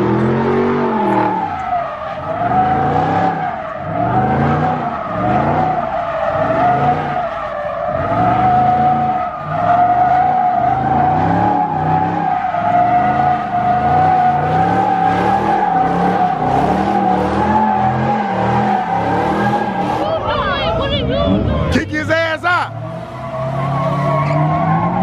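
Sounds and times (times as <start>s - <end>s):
car engine revving: 0.0s - 25.0s
car tyres squealing: 0.0s - 25.0s.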